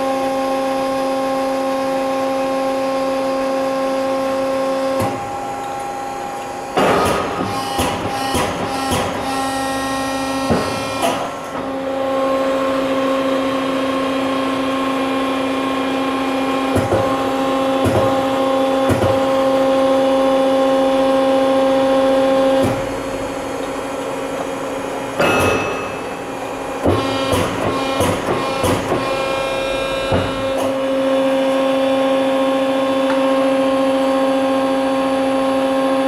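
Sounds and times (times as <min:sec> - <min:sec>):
press brake machine hum: 0:02.8 - 0:35.5.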